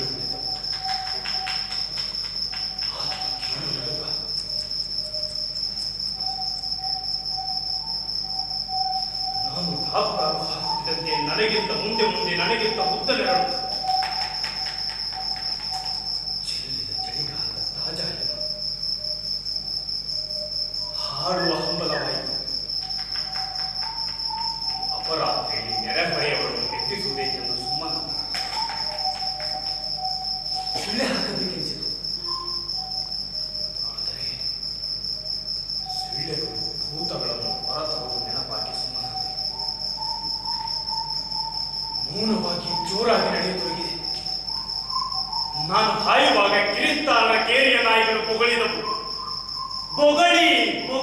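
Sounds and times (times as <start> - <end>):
cricket chirring: 0.0 - 51.0.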